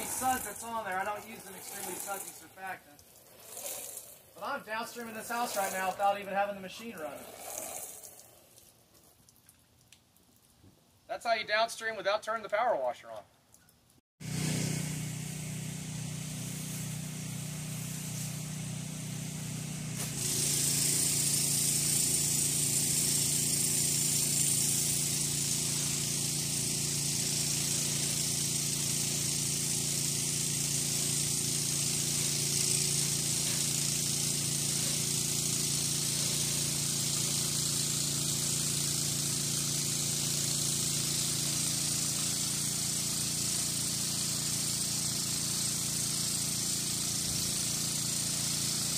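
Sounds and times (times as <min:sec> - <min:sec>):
pressure washer engine running: 0:00.0 - 0:08.2, 0:14.2 - 0:48.9
high-pressure water jet hissing: 0:00.0 - 0:08.3, 0:14.2 - 0:48.9.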